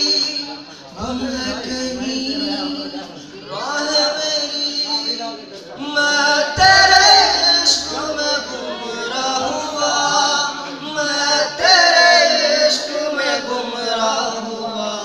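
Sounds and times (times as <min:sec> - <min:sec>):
person singing live: 0:00.0 - 0:15.0.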